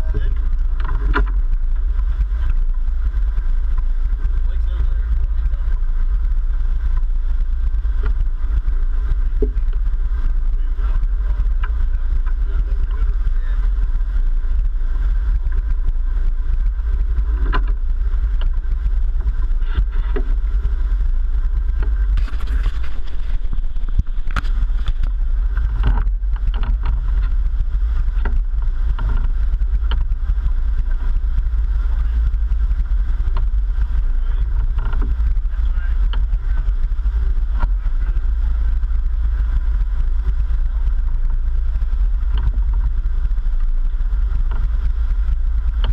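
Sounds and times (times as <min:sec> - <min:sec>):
boat engines rumbling: 0:00.0 - 0:45.9
water rushing past hull: 0:00.0 - 0:45.9.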